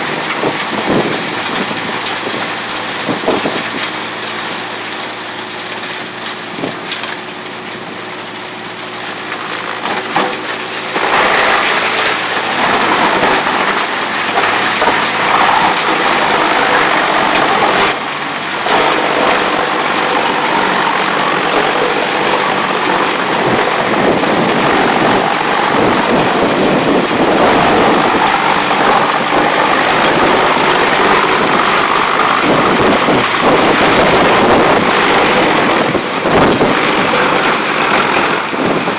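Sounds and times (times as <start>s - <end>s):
wood chipper engine humming: 0.0s - 38.9s
wood grinding and splintering: 0.0s - 38.9s.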